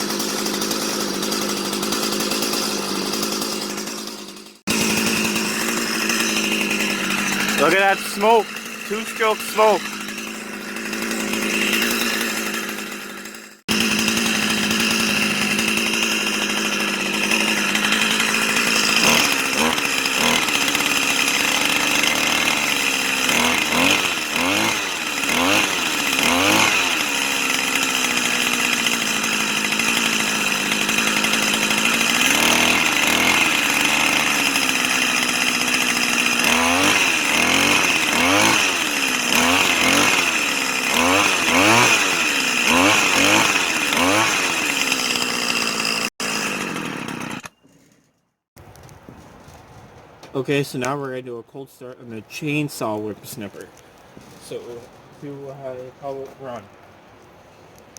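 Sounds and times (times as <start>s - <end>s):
string trimmer engine revving: 0.0s - 47.6s.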